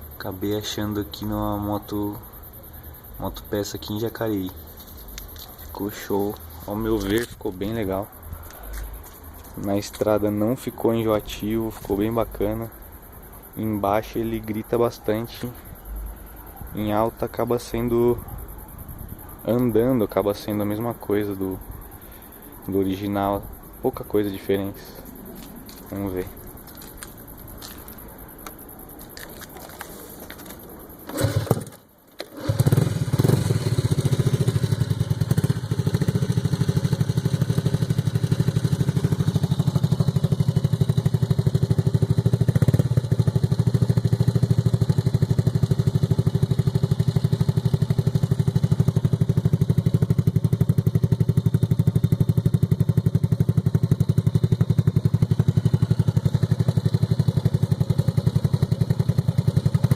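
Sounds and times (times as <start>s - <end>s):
motorcycle engine with deep exhaust: 0.0s - 31.8s, 32.4s - 59.9s.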